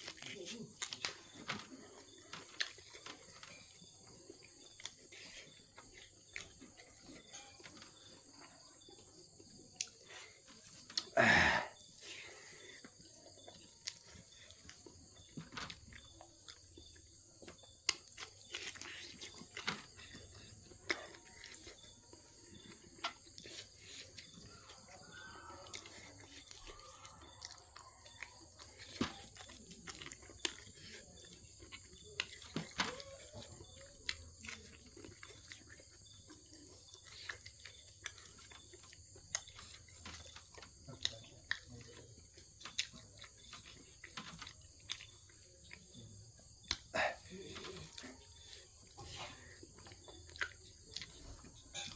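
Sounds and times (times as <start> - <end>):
insects chirring: 0.0 - 51.9
person chewing and crunching: 0.0 - 51.9.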